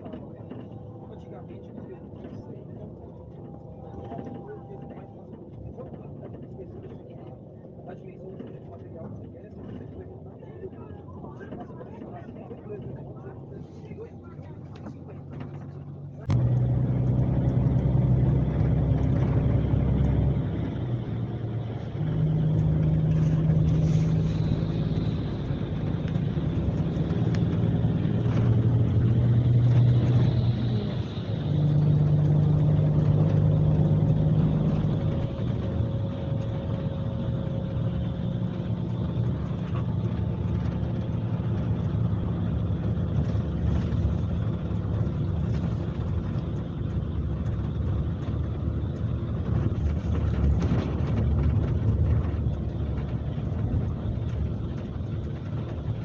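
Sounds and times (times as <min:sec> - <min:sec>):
coach diesel engine droning: 0:00.0 - 0:56.0.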